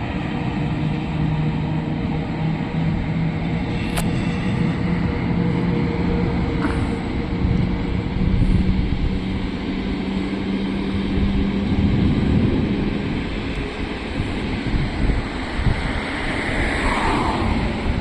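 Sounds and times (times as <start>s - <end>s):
steady low hum: 0.0s - 18.0s
train wheels rumbling on rails: 0.0s - 18.0s.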